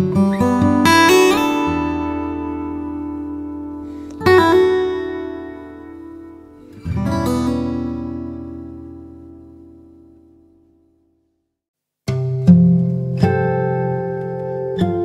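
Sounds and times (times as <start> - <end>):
acoustic guitar chord strummed: 0.0 - 11.4, 12.0 - 15.0.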